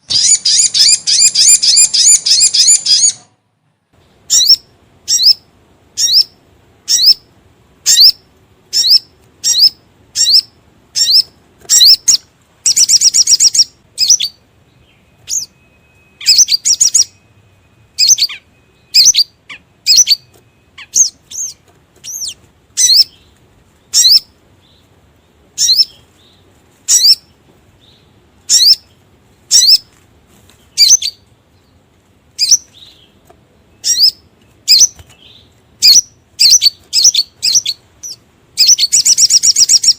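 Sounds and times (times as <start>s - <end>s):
bird chirps and trill: 0.0s - 3.3s, 4.0s - 29.9s, 30.6s - 39.9s.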